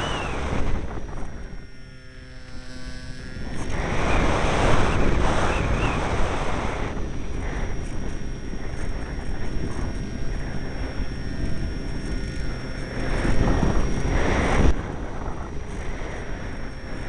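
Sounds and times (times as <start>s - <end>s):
faint tonal hum: 0.0s - 17.0s
wind buffeting microphone: 0.0s - 17.0s.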